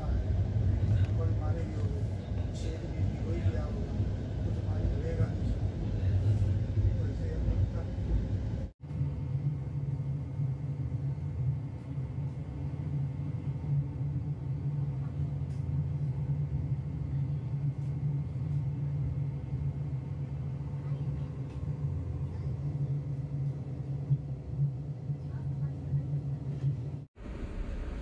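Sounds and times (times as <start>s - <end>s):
faint constant hum: 0.0s - 28.0s
train low rumble: 0.0s - 28.0s.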